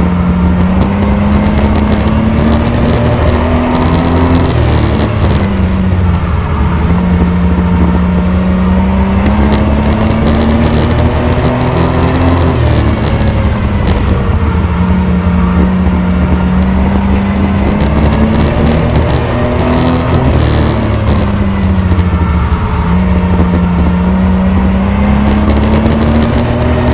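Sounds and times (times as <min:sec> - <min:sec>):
race truck engine running hard: 0:00.0 - 0:26.9.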